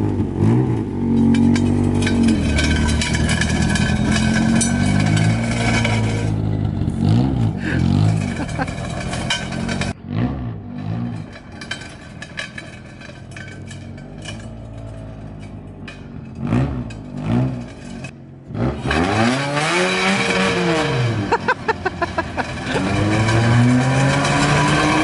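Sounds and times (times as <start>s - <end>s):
harsh grinding noise: 0.0s - 10.0s, 10.6s - 25.0s
car engine revving: 0.0s - 25.0s.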